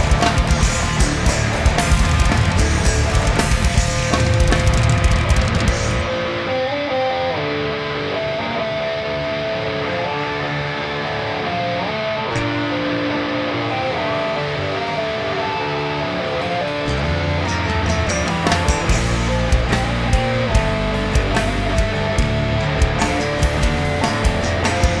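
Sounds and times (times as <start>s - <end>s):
electric guitar melody: 0.0s - 25.0s
rock band playing: 0.0s - 25.0s.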